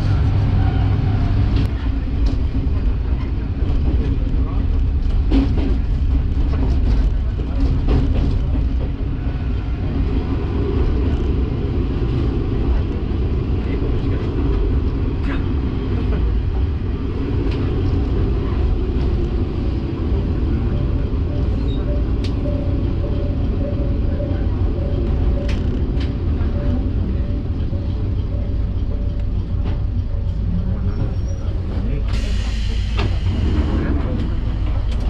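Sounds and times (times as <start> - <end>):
railcar engine and wheel rumble: 0.0 - 35.0.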